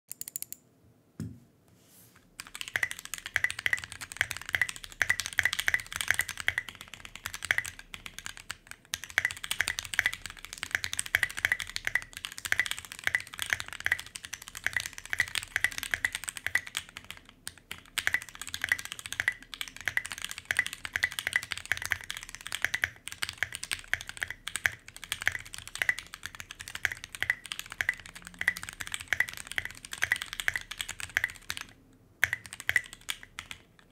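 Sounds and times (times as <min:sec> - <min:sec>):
mechanical keyboard typing: 0:00.1 - 0:00.6, 0:02.4 - 0:33.9.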